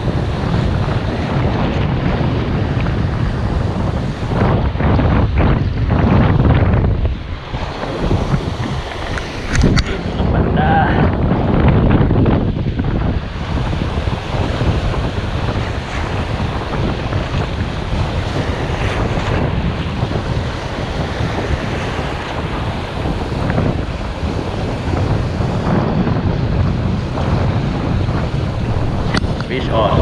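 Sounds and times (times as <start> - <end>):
sea surf washing on shore: 0.0 - 30.0
wind rumbling on microphone: 0.0 - 30.0.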